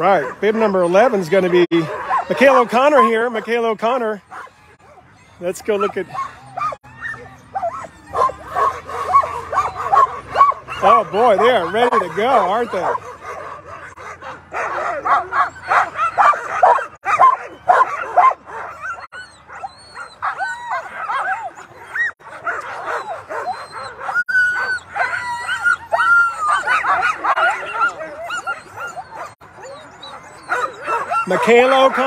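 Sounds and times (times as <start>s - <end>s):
dogs barking and yipping: 0.0s - 32.0s.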